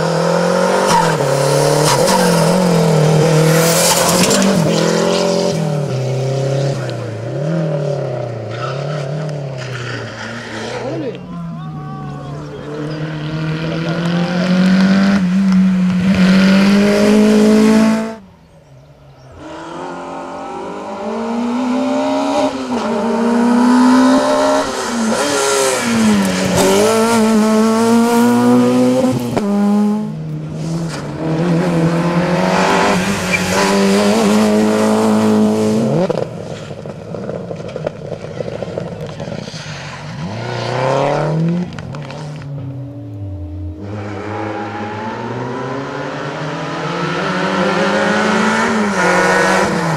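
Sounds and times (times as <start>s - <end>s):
rally car engines racing: 0.0s - 49.9s.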